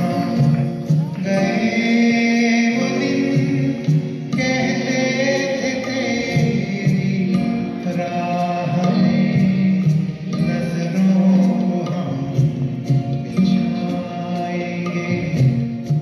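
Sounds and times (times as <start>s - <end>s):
man singing slow melodic song: 0.0s - 16.0s
musical accompaniment: 0.0s - 16.0s.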